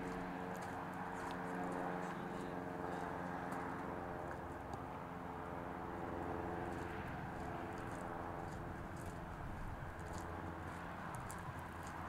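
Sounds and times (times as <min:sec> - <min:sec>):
faint footsteps clicking: 0:00.0 - 0:04.9, 0:06.2 - 0:12.0
vehicle engine humming: 0:00.0 - 0:12.0.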